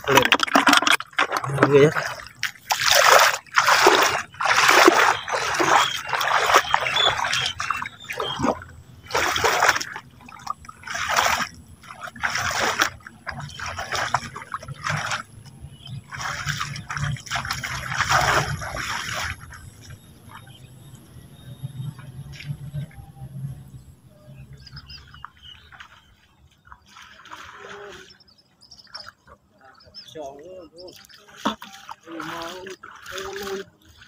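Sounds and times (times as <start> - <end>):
water splashing and trickling: 0.0 - 34.0.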